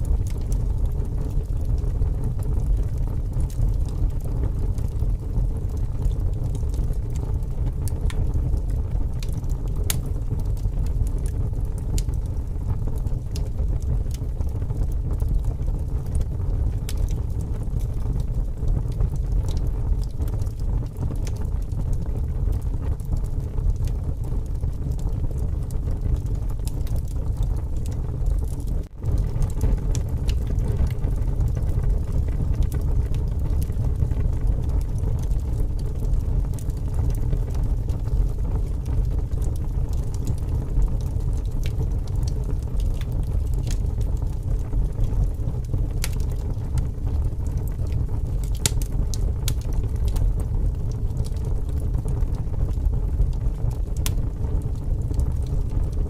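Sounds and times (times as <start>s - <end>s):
strong wind rumble: 0.0s - 56.0s
wood fire crackling and popping: 0.0s - 56.0s.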